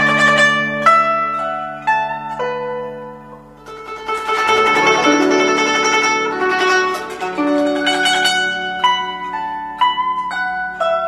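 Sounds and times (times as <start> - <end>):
guzheng plucking: 0.0 - 11.0.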